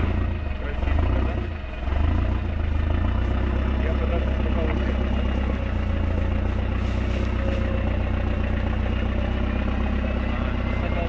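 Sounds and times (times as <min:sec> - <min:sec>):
off-road vehicle engine at low revs: 0:00.0 - 0:11.0.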